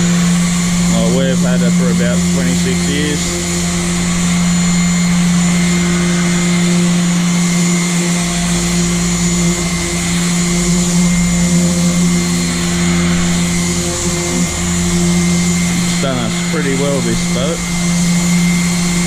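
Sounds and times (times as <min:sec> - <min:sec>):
electric sander on metal: 0:00.0 - 0:19.0.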